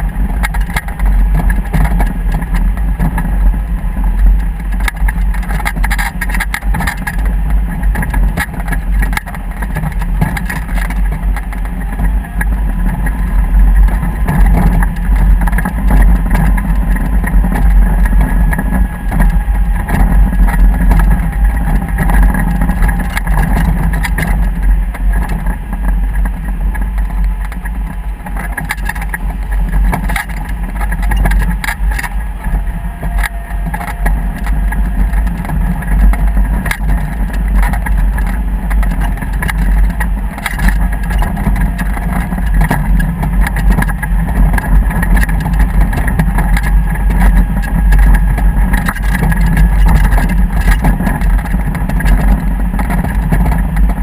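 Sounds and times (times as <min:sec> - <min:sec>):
motor rumbling: 0:00.0 - 0:54.0.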